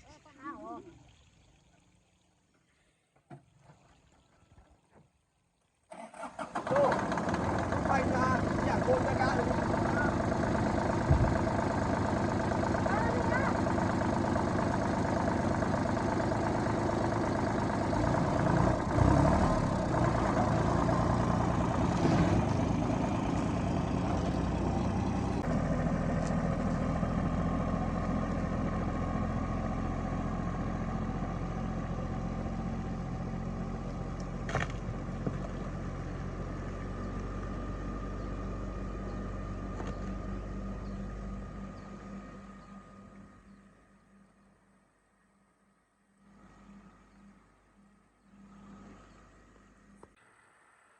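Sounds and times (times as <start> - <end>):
car engine idling: 5.9 - 50.9.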